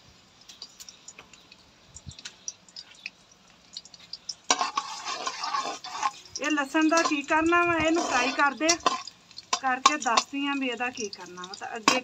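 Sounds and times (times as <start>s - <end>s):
garlic frying in oil: 0.0s - 12.0s.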